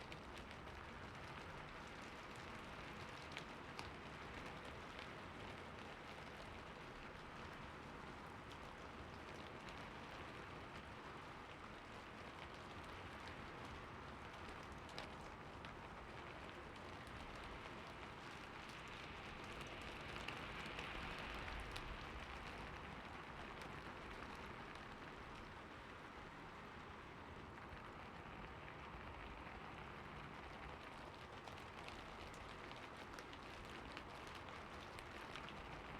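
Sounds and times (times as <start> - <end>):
raindrop ticks: 0.0 - 26.6, 27.6 - 35.9
steady rain falling: 0.0 - 35.9.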